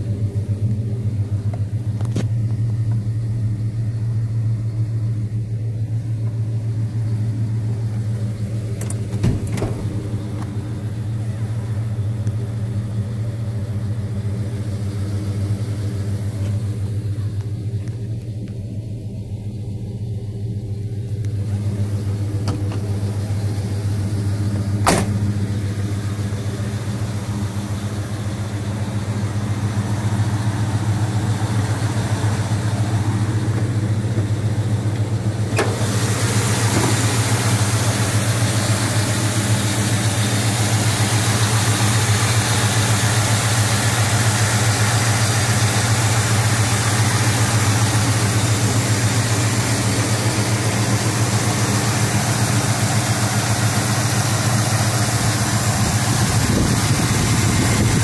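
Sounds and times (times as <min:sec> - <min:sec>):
pickup engine idling: 0:00.0 - 0:58.0.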